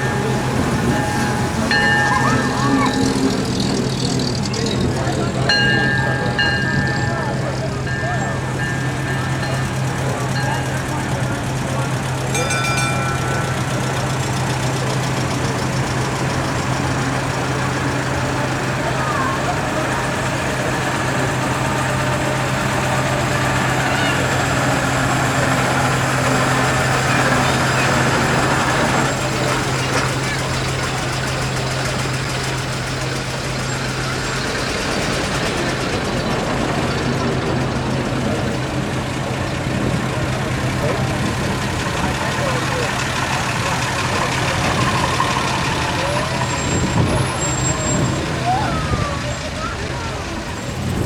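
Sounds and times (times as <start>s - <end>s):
fire engine idling: 0.0s - 51.0s.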